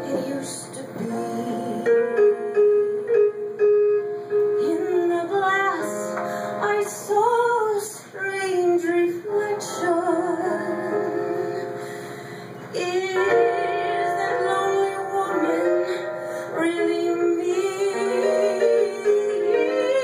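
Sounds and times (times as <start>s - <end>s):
woman singing into a microphone: 0.0s - 3.2s, 4.5s - 20.0s
keyboard accompaniment: 0.0s - 20.0s.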